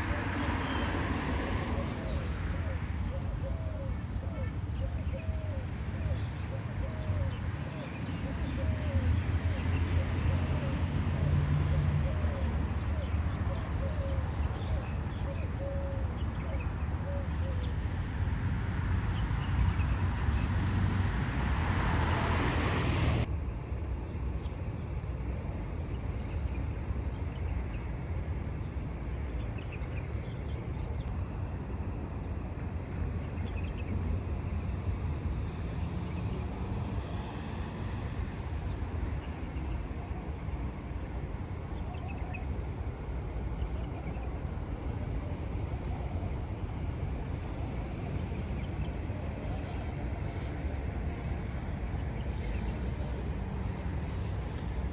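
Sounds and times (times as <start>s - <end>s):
road traffic rumble: 0.0s - 23.5s, 24.2s - 54.9s.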